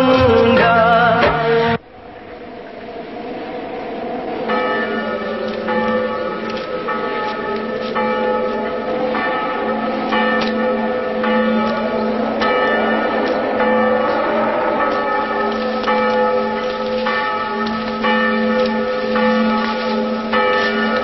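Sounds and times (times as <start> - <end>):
steady low drone: 0.0 - 21.0.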